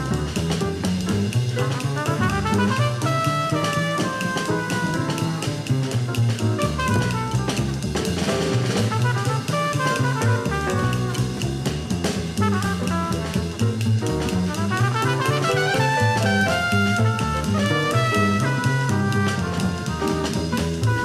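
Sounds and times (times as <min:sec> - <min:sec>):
bass line: 0:00.0 - 0:21.0
busy drum kit: 0:00.0 - 0:21.0
jazz music: 0:00.0 - 0:21.0.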